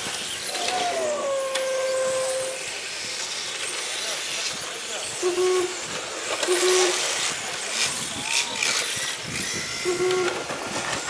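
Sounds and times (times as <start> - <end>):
rc cars racing: 0.0 - 11.0.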